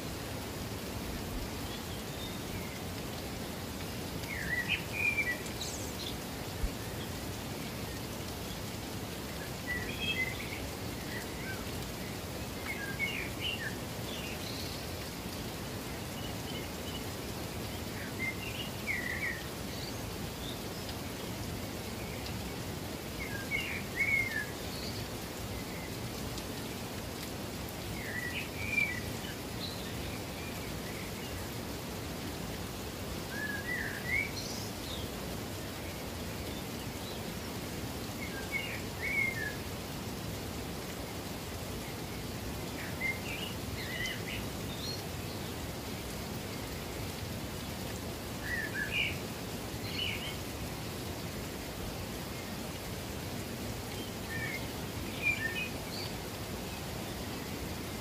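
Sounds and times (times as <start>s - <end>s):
falling water hiss: 0.0s - 58.0s.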